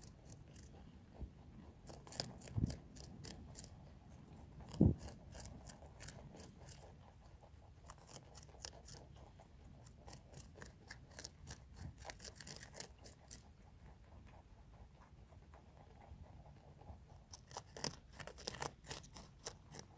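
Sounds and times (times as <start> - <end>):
rabbits chewing cabbage: 0.0 - 19.9.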